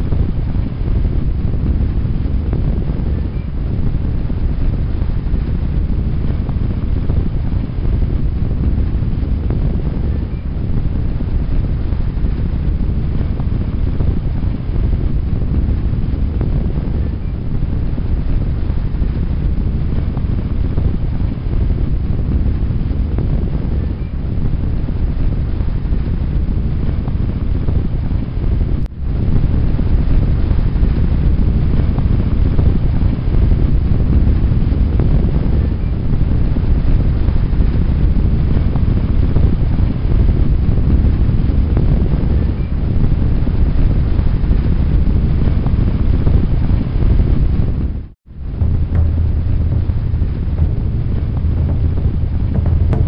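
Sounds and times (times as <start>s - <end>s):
gas flame rushing rumble: 0.0s - 53.0s.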